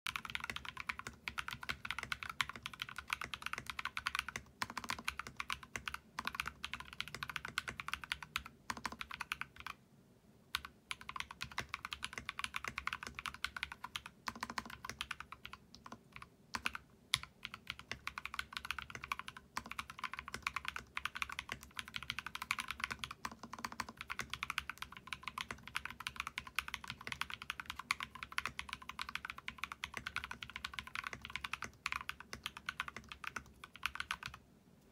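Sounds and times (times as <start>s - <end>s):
mechanical keyboard typing: 0.1s - 9.8s, 10.5s - 34.4s.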